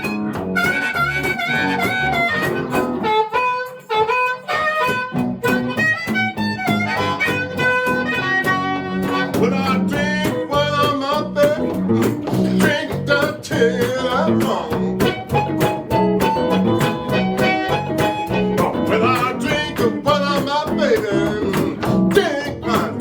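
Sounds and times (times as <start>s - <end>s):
harmonica with bent notes: 0.0s - 23.0s
strummed guitar rhythm: 0.0s - 23.0s.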